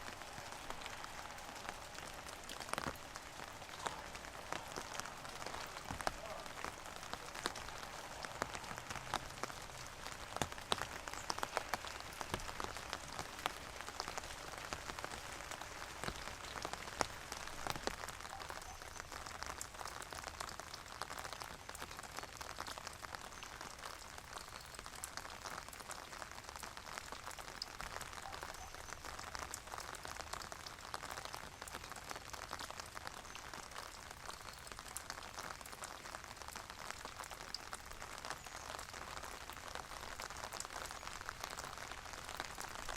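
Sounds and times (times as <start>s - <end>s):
rain pattering on hard surface: 0.0s - 42.9s.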